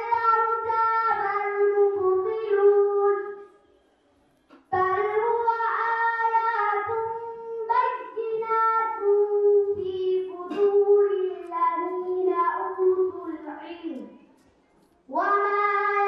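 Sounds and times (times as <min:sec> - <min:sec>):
girl chanting into a microphone: 0:00.0 - 0:03.4, 0:04.7 - 0:14.2, 0:15.1 - 0:16.0.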